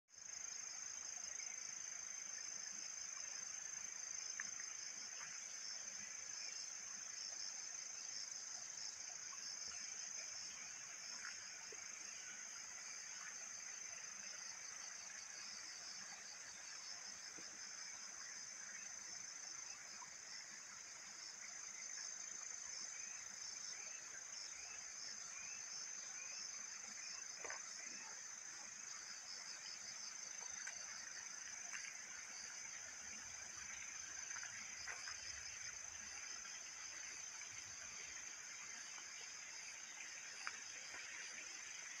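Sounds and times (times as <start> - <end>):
pulsing insect song: 0.1 - 42.0
insects trilling: 0.2 - 42.0.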